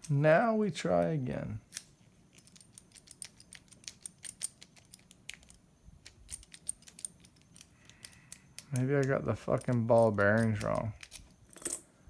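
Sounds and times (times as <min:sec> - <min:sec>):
small mechanism clicking and ticking: 0:01.7 - 0:11.8.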